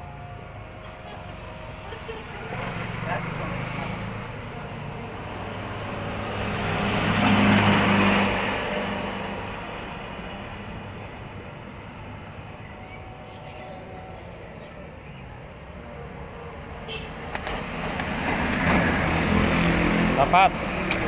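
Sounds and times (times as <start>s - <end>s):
vehicle passing by: 0.1s - 21.0s.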